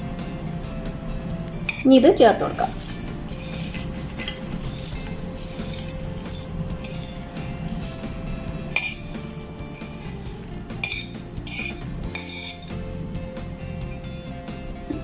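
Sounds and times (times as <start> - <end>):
background music: 0.0 - 15.0
spoon scraping a bowl: 0.4 - 14.0.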